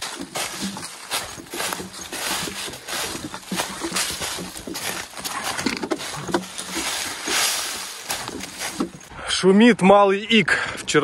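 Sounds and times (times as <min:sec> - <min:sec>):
hiker footsteps: 0:00.0 - 0:09.2.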